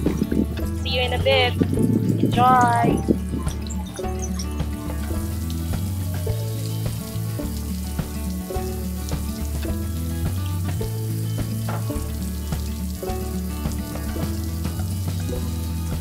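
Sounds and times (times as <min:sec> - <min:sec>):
background music with bass line: 0:00.0 - 0:16.0.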